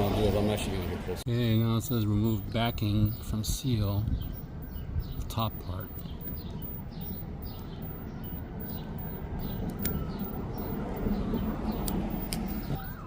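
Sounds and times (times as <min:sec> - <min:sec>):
small bird chirping: 0:01.5 - 0:13.0.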